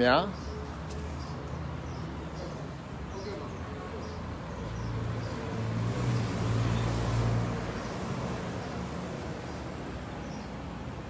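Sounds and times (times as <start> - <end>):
background traffic: 0.0 - 11.0.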